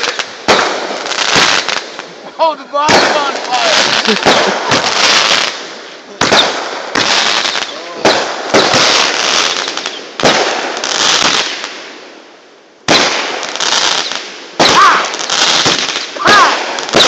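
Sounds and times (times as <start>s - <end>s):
fireworks bangs: 0.0s - 12.2s, 12.8s - 17.0s
fireworks crackle: 0.0s - 17.0s.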